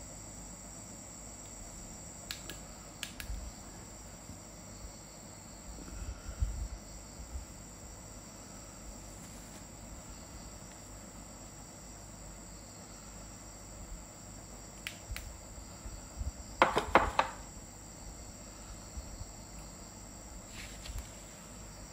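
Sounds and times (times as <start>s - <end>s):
crickets chirring: 0.0s - 21.9s.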